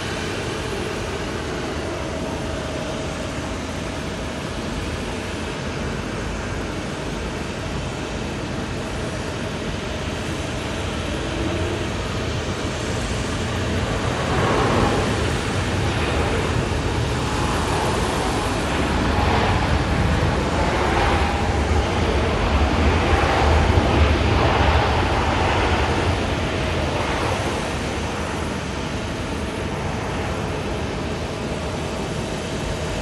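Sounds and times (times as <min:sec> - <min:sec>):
jet airliner engines passing: 0:00.0 - 0:33.0.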